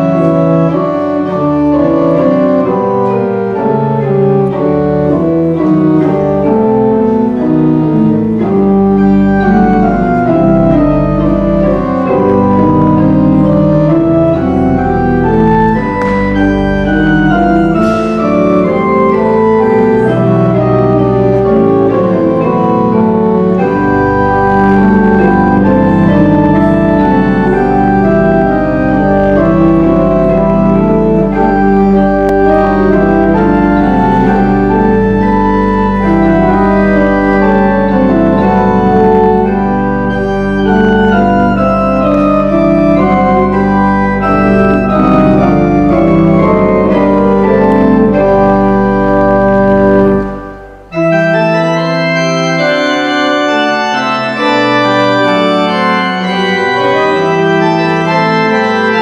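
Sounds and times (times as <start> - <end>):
church organ chords: 0.0 - 59.0
deep organ bass note: 0.0 - 59.0.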